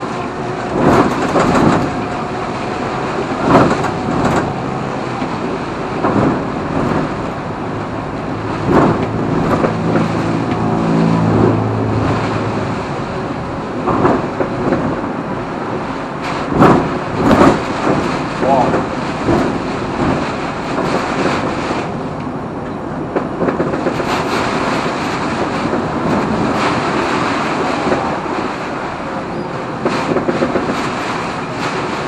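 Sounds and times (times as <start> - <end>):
heavy vehicle engine hum: 0.0 - 32.0
road traffic: 0.0 - 32.0
wind gusts whooshing: 0.0 - 32.0.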